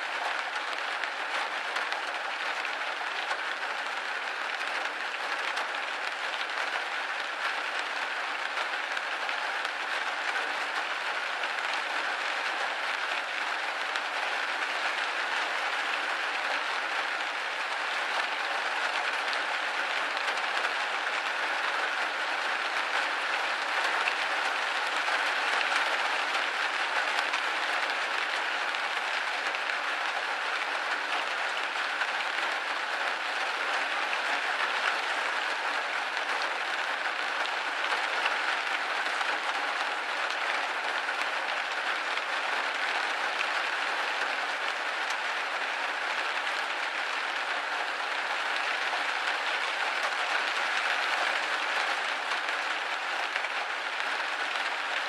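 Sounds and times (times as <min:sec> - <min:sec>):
rain hitting a window pane: 0:00.0 - 0:55.0.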